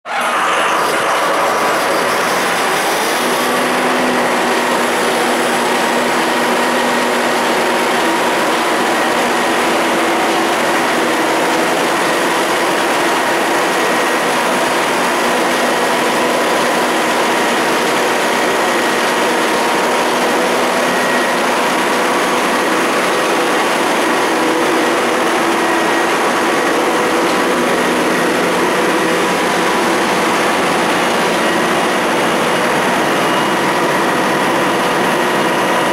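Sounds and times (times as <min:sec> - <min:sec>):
diesel generator droning: 0:00.1 - 0:35.9.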